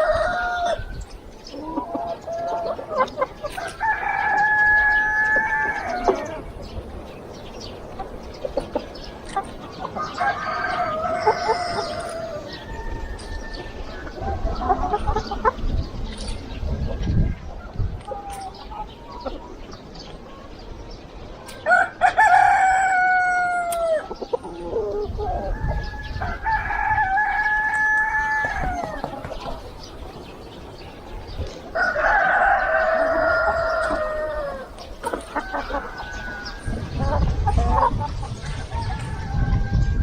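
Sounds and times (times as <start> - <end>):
roosters crowing: 0.0 - 15.7, 21.5 - 40.0.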